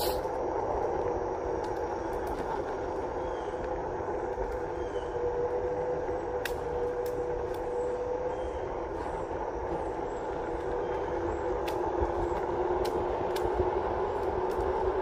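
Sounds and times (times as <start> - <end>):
tyre rolling on asphalt: 0.3 - 15.0.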